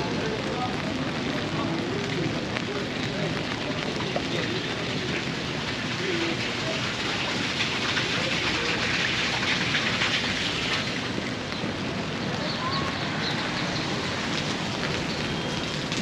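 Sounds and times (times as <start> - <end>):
rain on wet pavement: 0.0 - 16.0.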